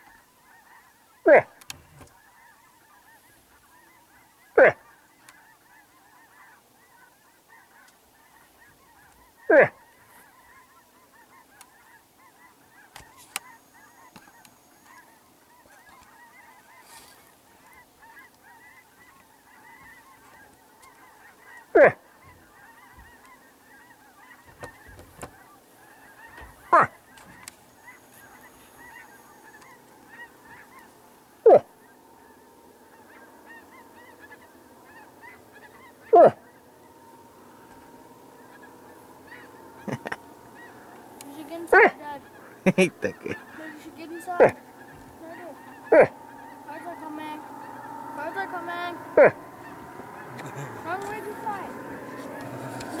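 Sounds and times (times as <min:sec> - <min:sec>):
geese honking: 0:00.0 - 0:53.0.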